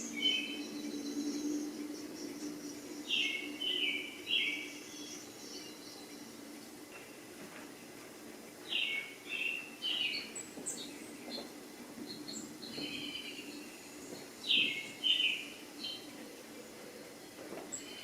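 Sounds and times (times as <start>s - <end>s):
faint background hum: 0.0s - 18.0s.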